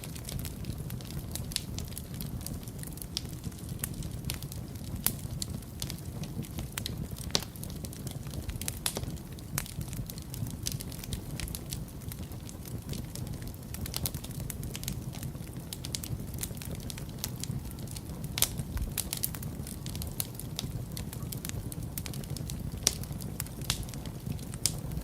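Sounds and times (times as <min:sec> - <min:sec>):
fire low rumble: 0:00.0 - 0:25.0
wood fire crackling and popping: 0:00.0 - 0:25.0.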